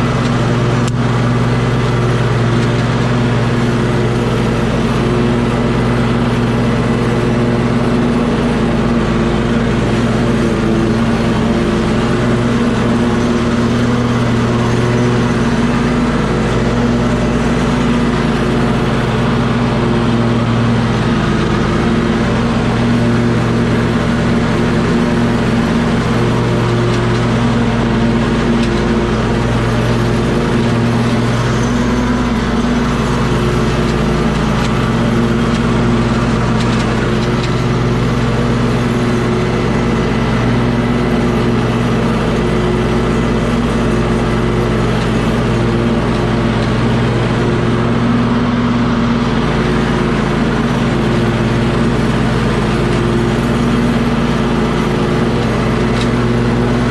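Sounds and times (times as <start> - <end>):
engine running steadily: 0.0 - 56.9.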